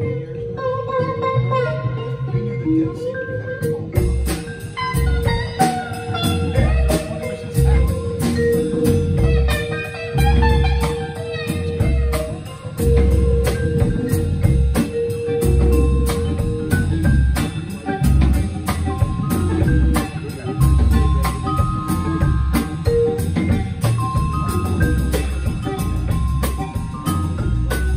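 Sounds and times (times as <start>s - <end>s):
drums: 0.0s - 27.9s
electric guitar: 0.0s - 27.9s
hand percussion: 0.0s - 27.9s
upright bass: 0.0s - 27.9s
vibraphone: 0.0s - 27.9s.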